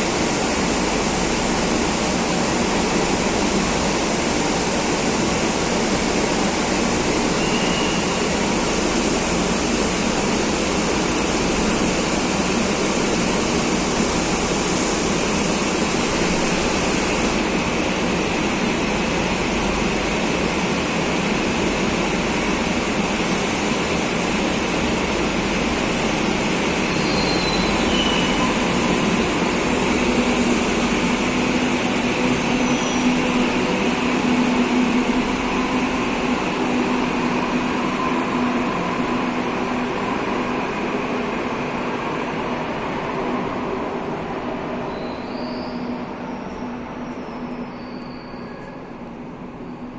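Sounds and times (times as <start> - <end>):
train running rumble: 0.0 - 49.9.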